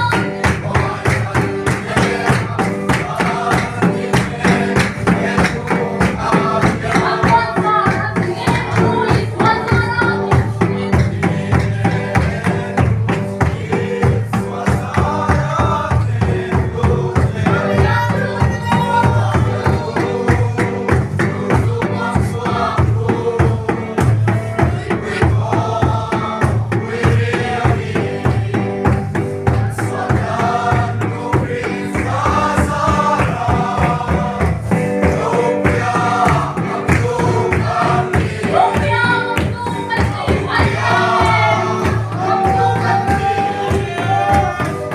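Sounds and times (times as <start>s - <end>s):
driving percussion beat: 0.0s - 44.9s
group singing gospel song: 0.0s - 44.9s.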